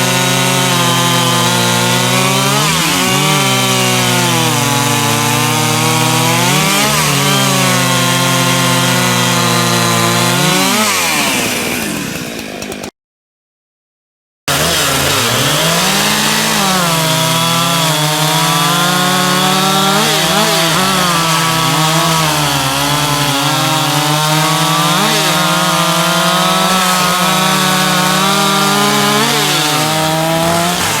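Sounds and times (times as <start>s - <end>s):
chainsaw cutting wood: 0.0s - 12.9s, 14.5s - 31.0s.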